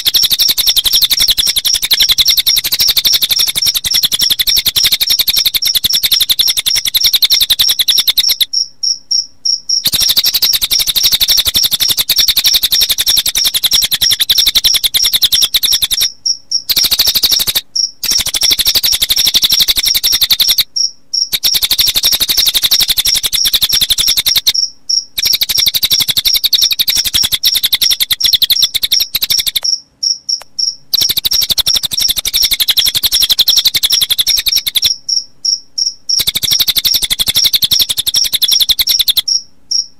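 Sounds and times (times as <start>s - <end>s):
bird song trill: 0.0s - 39.9s
crickets chirping: 0.0s - 39.9s.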